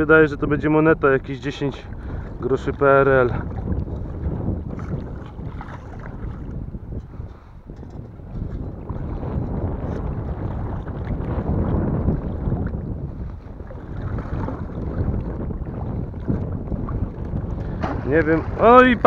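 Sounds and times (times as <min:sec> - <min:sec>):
wind noise on microphone: 0:00.0 - 0:19.0
shallow water sloshing: 0:01.1 - 0:19.0.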